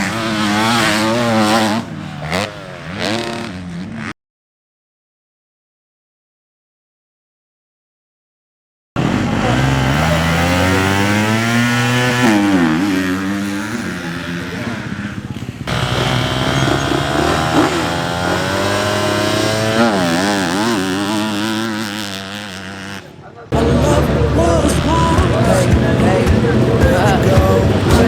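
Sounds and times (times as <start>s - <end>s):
motocross bike engines revving: 0.0s - 4.2s, 9.0s - 28.0s.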